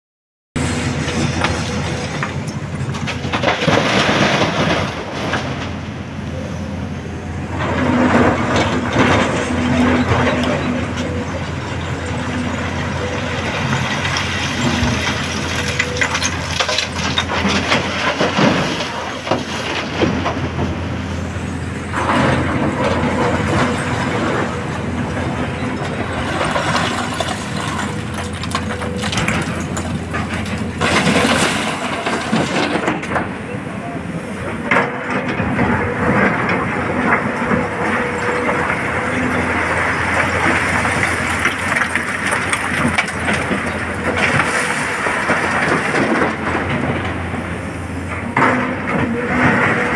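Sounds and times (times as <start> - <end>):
excavator engine and hydraulics: 0.6 - 49.9.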